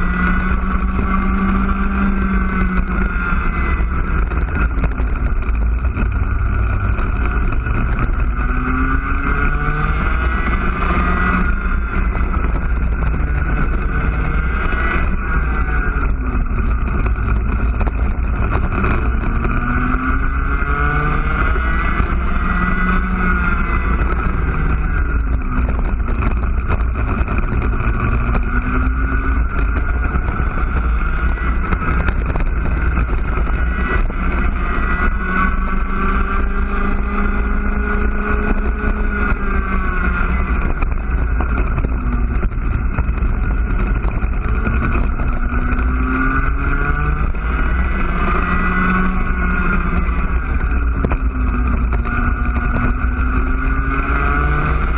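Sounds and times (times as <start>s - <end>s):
kart engine at high revs: 0.0s - 54.9s.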